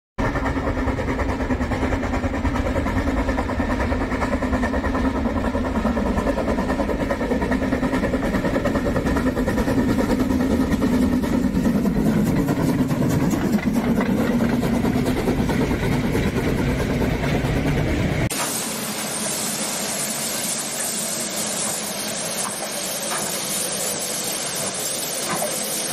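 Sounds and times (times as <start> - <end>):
steam locomotive chuffing: 0.2 - 25.9
train coaches rolling past: 0.2 - 25.9.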